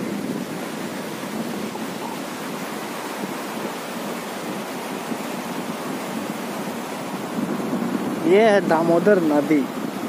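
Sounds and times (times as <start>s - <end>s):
river rushing over rocks: 0.0s - 10.0s.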